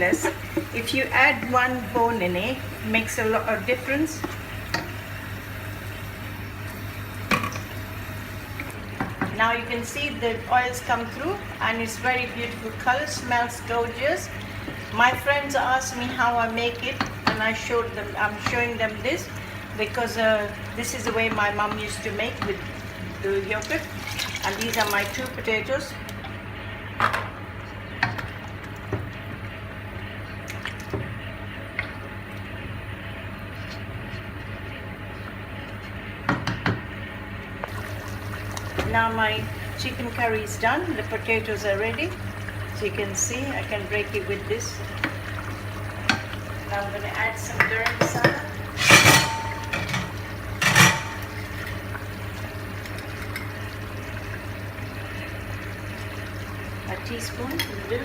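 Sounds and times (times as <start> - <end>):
curry bubbling in a pot: 0.2 - 36.6, 37.7 - 58.0.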